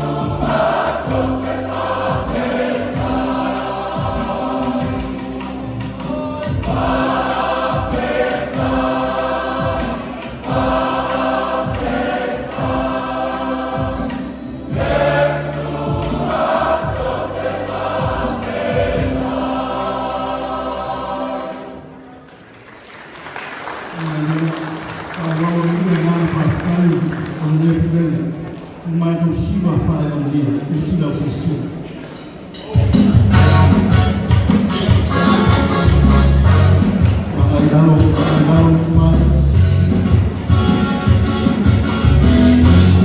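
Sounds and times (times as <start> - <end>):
choir singing a hymn: 0.0 - 22.5, 29.7 - 43.0
backing accompaniment with beat: 0.0 - 27.4, 31.7 - 43.0.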